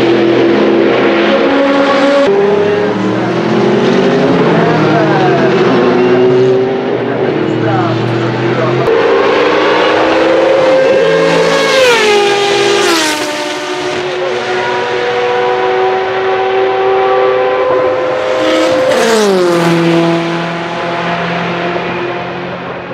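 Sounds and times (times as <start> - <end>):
racing cars passing at full throttle: 0.0 - 22.9.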